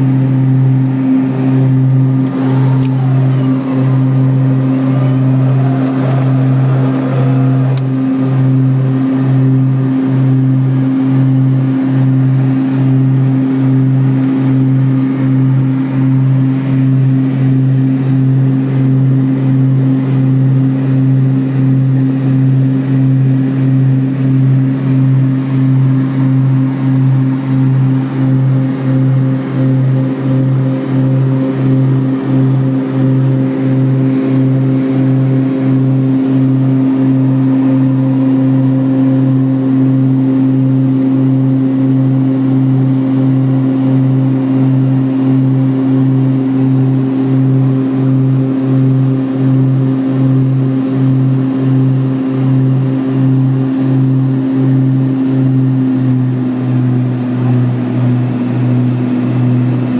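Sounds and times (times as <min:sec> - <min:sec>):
turboprop engines droning in cabin: 0:00.0 - 0:59.9.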